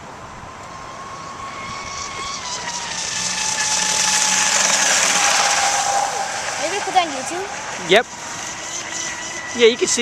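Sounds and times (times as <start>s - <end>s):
high thin motor whine: 0.0s - 10.0s.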